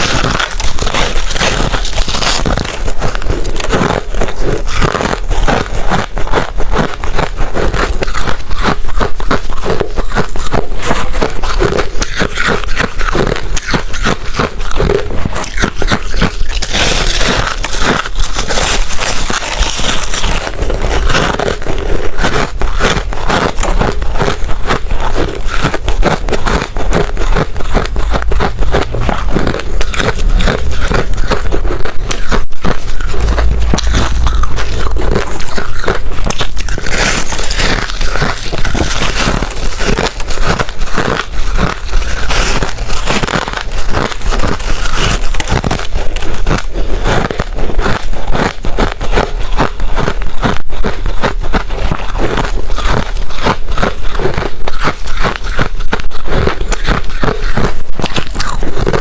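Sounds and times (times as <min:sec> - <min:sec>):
ice crunching while chewed: 0:00.0 - 0:59.0.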